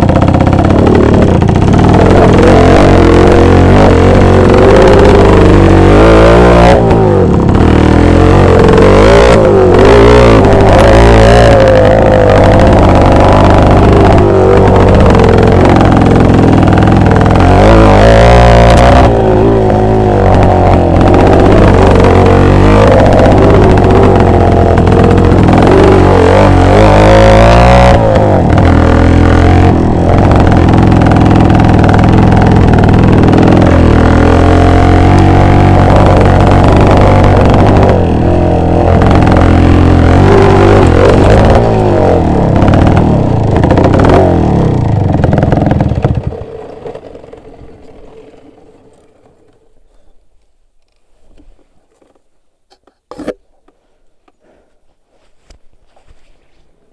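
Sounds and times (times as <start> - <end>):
two-stroke motorcycle engine revving: 0.0 - 50.2.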